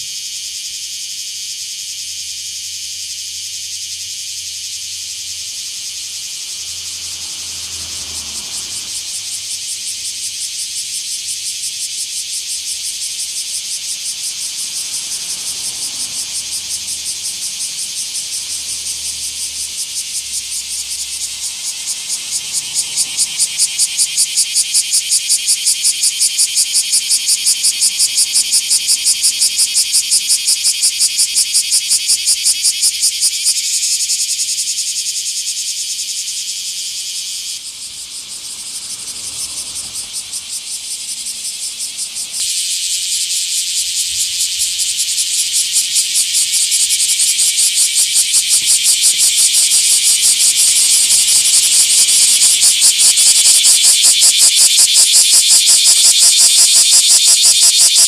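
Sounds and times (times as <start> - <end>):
cicada pulsing buzz: 0.0 - 58.0.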